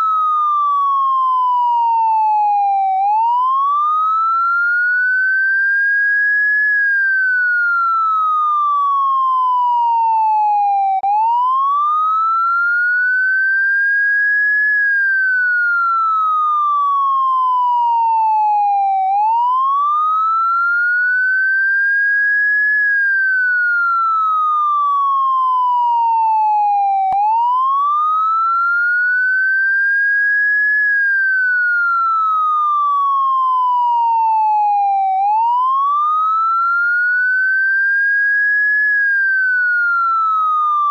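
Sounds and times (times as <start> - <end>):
electronic police siren wailing: 0.0 - 40.9.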